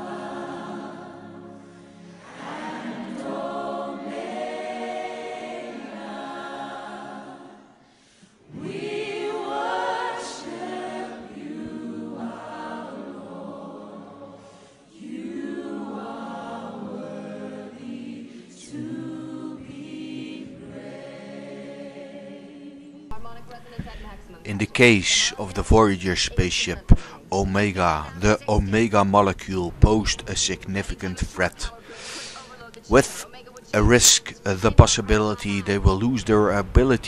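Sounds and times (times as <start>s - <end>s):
choir singing gospel: 0.0s - 37.0s.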